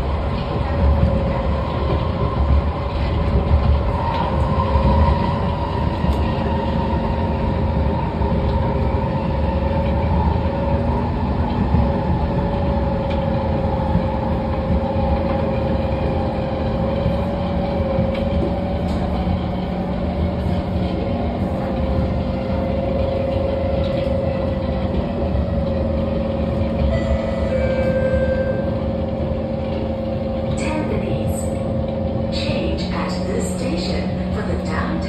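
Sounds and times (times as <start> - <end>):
train wheels rumbling: 0.0 - 35.0
train whine: 0.0 - 35.0.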